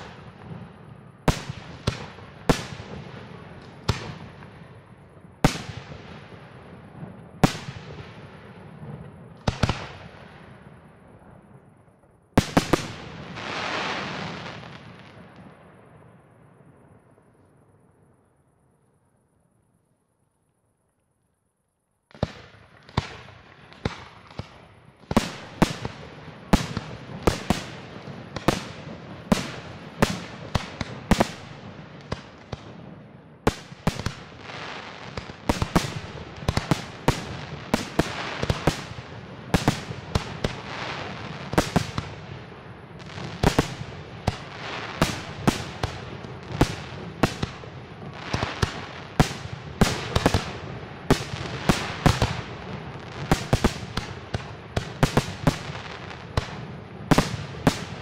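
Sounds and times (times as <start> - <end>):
firework crackling: 0.0 - 17.1, 22.1 - 58.0.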